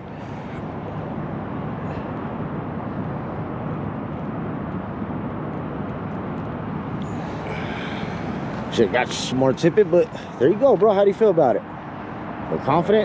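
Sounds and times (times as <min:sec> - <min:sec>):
outdoor ambient rushing noise: 0:00.0 - 0:13.0.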